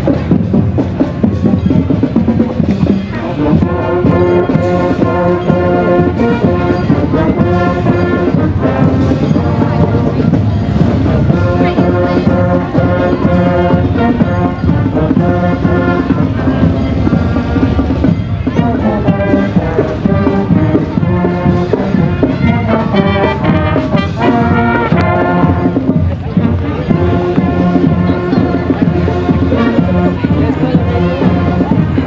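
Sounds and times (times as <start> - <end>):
marching band drums: 0.0 - 32.0
brass held chords: 1.3 - 32.0.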